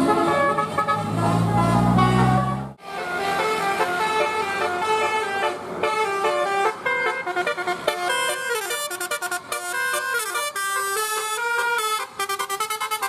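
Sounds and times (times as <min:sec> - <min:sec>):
multi-tone bus horn tune: 0:00.0 - 0:13.0.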